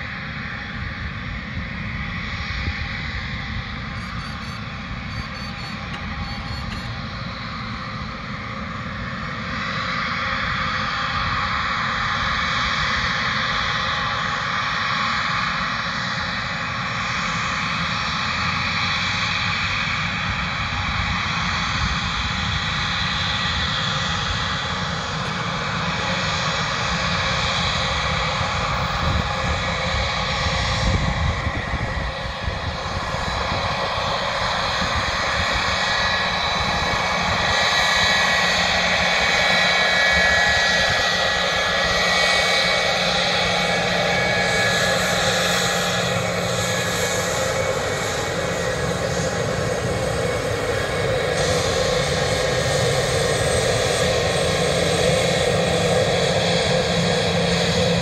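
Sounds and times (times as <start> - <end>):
jet engines hissing and whining: 0.0 - 58.0.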